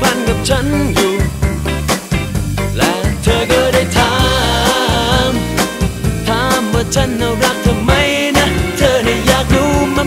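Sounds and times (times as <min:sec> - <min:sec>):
bass: 0:00.0 - 0:10.0
drum beat: 0:00.0 - 0:10.0.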